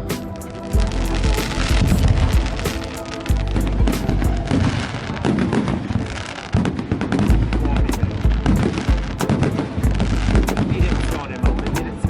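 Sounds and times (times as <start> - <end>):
music: 0.0 - 5.6, 7.1 - 12.0
deep fireworks booms: 0.0 - 12.0
fireworks bangs and crackles: 0.1 - 12.0.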